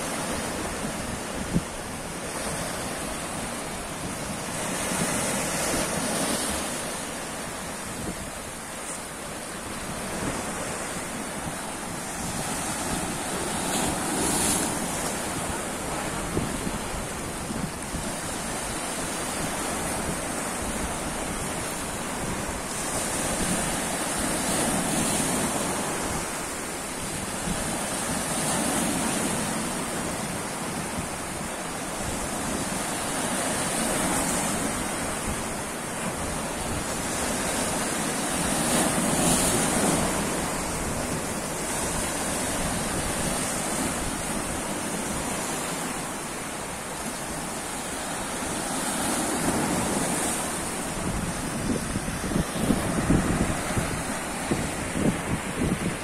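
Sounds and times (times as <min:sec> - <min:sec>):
waves breaking on rocky shore: 0:00.0 - 0:56.0.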